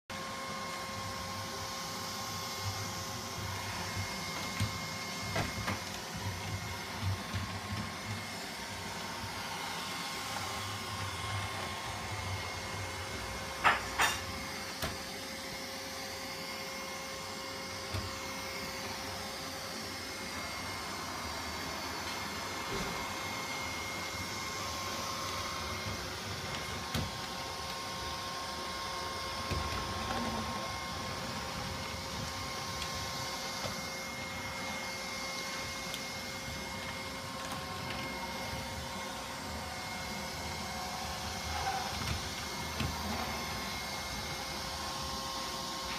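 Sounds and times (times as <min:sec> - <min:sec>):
robot vacuum humming: 0:00.1 - 0:45.9.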